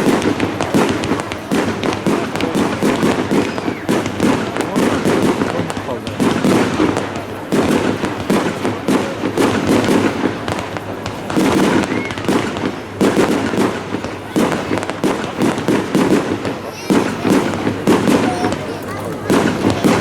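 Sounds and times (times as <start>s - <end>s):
firework bangs: 0.0s - 20.0s
firework crackling: 0.0s - 20.0s.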